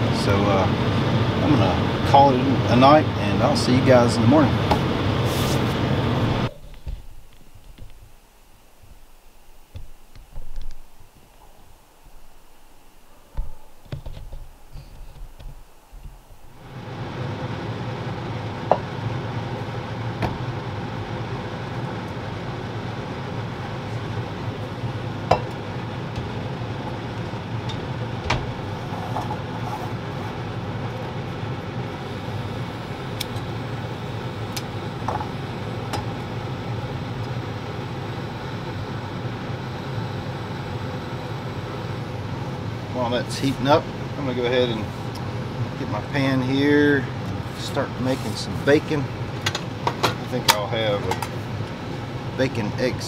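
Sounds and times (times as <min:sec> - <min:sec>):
steady hum and hiss: 0:00.0 - 0:53.0.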